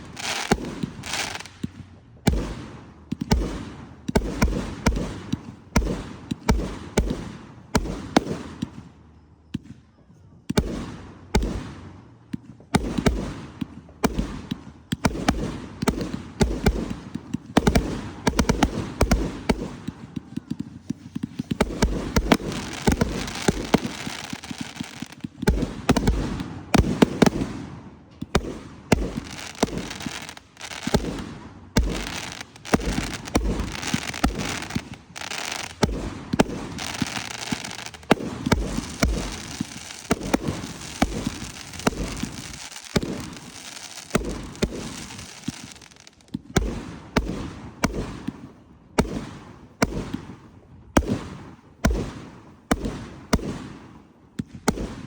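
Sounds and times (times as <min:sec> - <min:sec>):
fireworks crackling: 0:00.0 - 0:08.8, 0:12.8 - 0:50.4
fireworks booming bursts: 0:00.0 - 0:09.8, 0:10.5 - 0:55.0.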